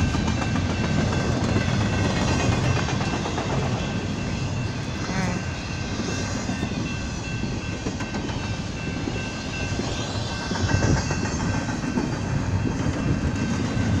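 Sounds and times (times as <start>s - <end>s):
steel wheels rolling on rails: 0.0s - 14.0s
train wheel clacks: 0.0s - 14.0s.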